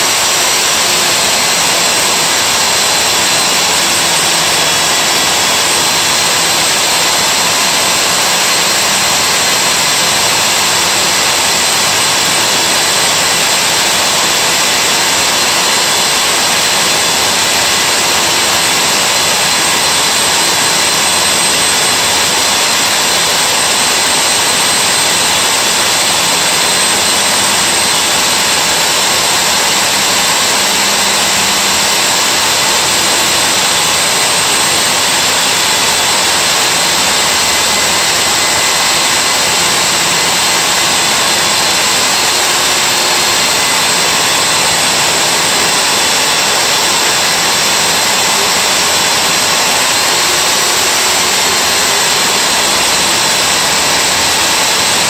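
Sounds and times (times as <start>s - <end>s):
core drill motor whine: 0.0s - 55.0s.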